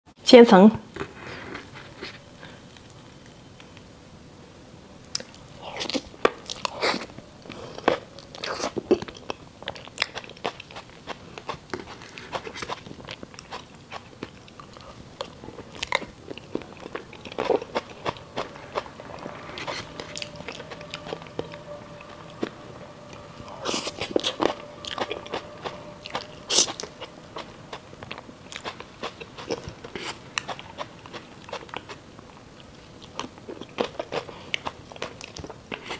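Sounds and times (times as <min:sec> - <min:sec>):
person chewing wet mouth sounds: 0:05.1 - 0:22.5, 0:23.5 - 0:32.0, 0:32.6 - 0:35.9.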